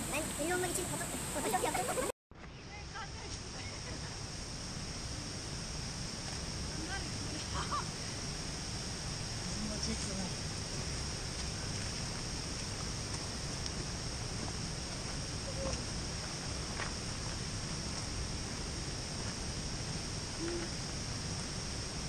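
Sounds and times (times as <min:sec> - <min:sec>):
low even hiss: 0:00.0 - 0:22.0.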